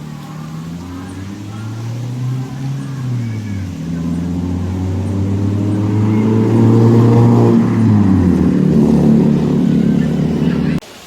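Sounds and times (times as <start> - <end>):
engine running: 0.0 - 10.8.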